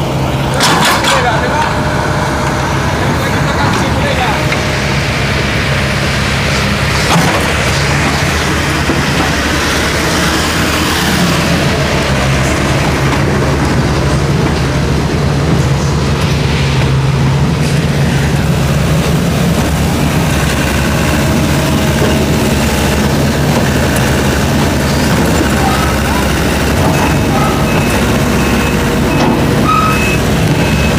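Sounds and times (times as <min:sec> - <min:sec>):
truck diesel engine under load: 0:00.0 - 0:30.9.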